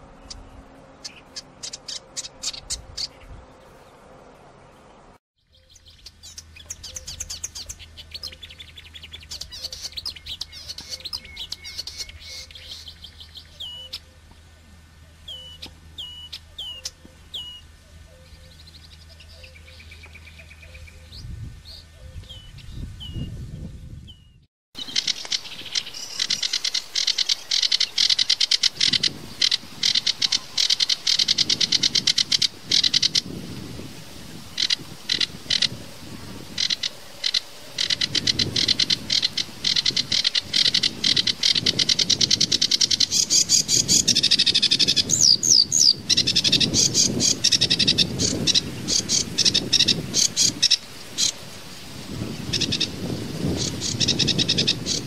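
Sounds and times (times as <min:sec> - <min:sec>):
warbler song: 0:00.0 - 0:55.0.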